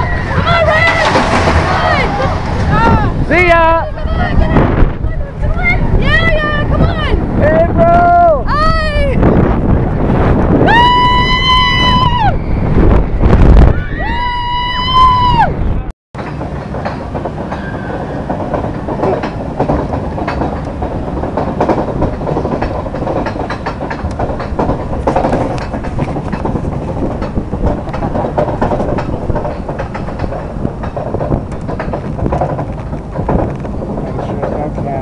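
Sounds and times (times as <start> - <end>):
roller coaster rumble: 0.0 - 35.0.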